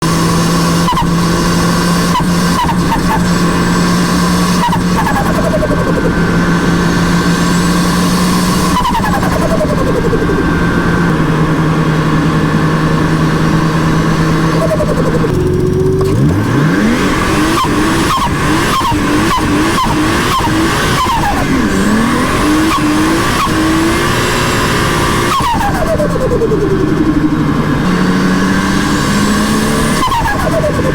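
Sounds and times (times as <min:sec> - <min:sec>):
car engine revving hard: 0:00.0 - 0:30.9
turbo flutter chirps: 0:00.8 - 0:12.4, 0:16.8 - 0:30.9.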